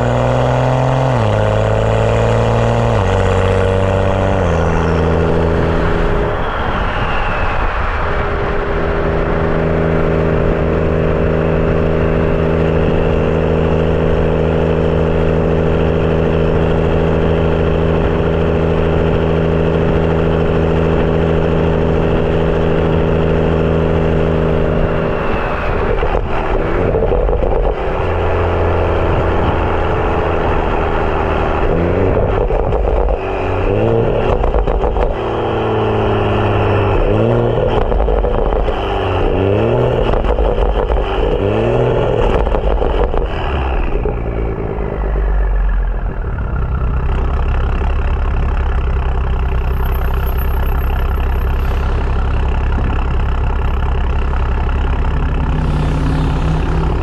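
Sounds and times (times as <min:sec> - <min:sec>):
car engine and exhaust while driving: 0:00.0 - 0:57.0.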